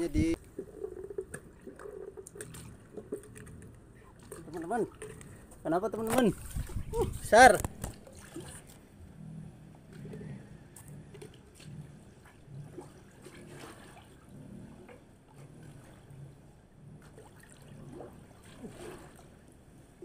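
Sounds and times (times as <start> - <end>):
water sloshing and trickling: 0.0 - 20.0.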